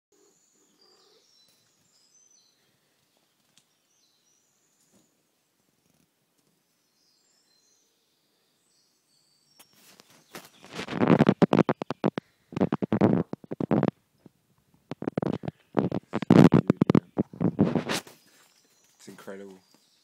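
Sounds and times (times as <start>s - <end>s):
faint bird chirps: 0.2s - 13.0s, 15.2s - 20.0s.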